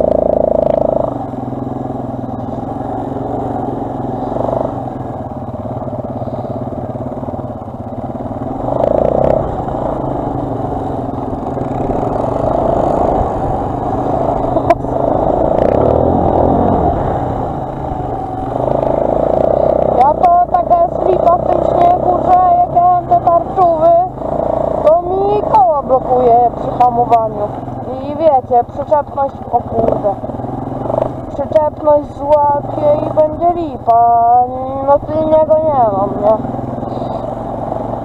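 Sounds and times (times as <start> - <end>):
quad bike engine revving: 0.0 - 38.0.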